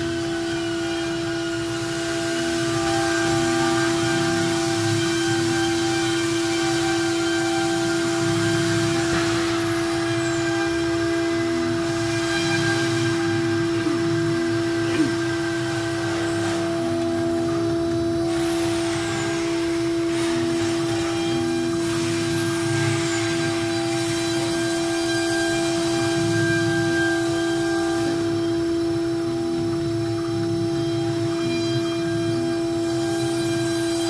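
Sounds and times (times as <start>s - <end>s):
router spindle high whine: 0.0s - 34.0s.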